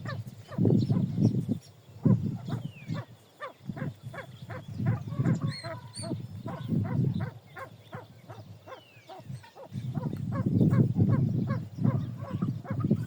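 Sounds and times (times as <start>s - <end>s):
pheasants clucking: 0.0s - 13.0s.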